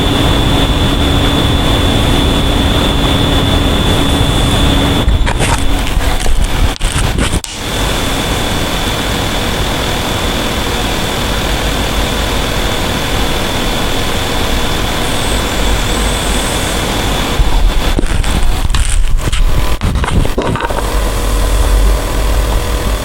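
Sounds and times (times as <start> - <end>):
high even whine: 0.0 - 23.0
steady engine noise: 0.0 - 23.0.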